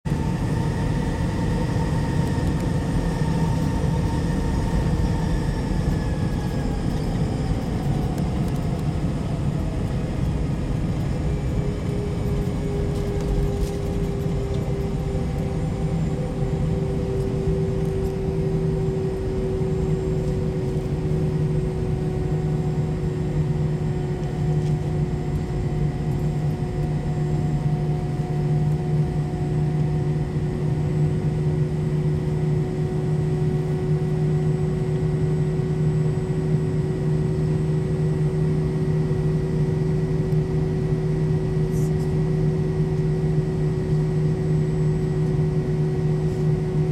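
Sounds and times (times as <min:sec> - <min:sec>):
jet engines running: 0:00.1 - 0:46.9.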